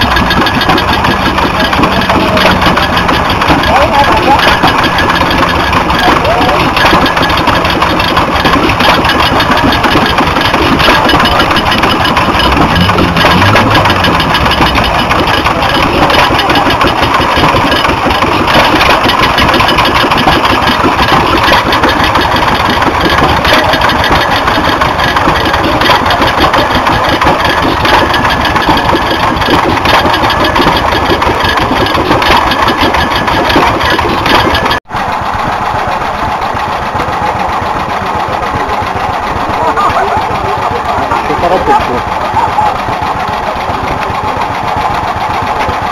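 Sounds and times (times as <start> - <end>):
stationary gas engines popping: 0.0 - 45.9.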